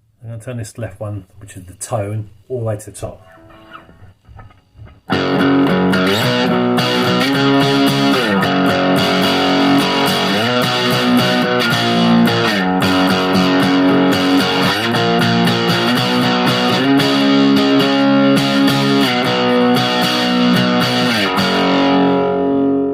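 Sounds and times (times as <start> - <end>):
distorted electric guitar chords: 3.2 - 22.9.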